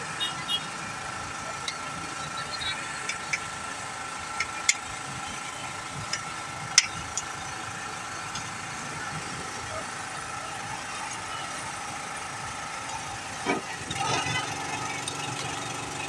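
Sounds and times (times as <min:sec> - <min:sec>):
street stall hum: 0:00.0 - 0:16.0.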